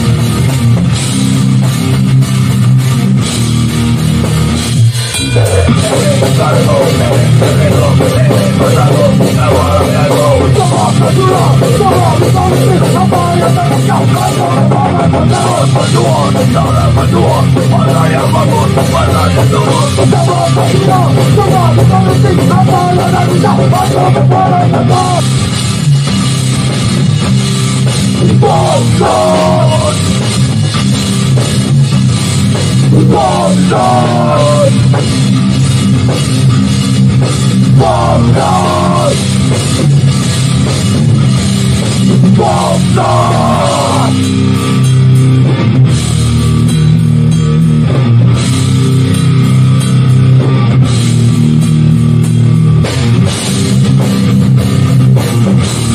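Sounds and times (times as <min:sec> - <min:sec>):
drum kit playing: 0:00.0 - 0:55.9
electric guitars playing: 0:00.0 - 0:55.9
wavering bent-note lead guitar: 0:00.0 - 0:55.9.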